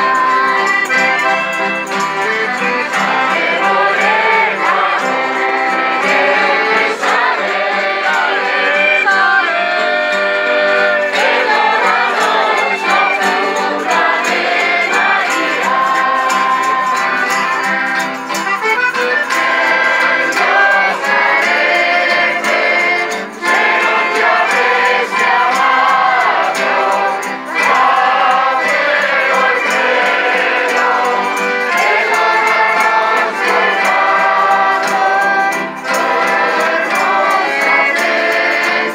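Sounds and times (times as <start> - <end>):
accordion: 0.0 - 38.9
acoustic guitars: 0.0 - 38.9
crowd singing in chorus: 0.0 - 38.9.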